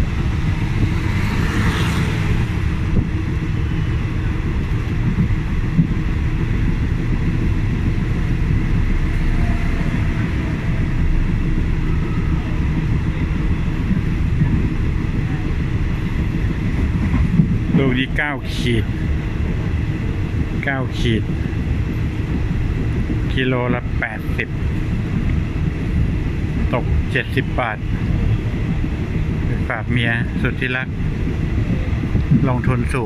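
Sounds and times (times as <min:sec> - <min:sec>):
train low rumble: 0:00.0 - 0:33.0
wind noise from window: 0:00.0 - 0:33.0.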